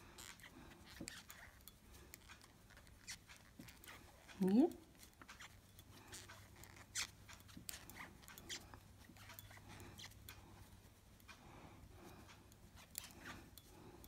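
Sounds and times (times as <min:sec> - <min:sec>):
knitting needles clicking: 0:00.0 - 0:14.0.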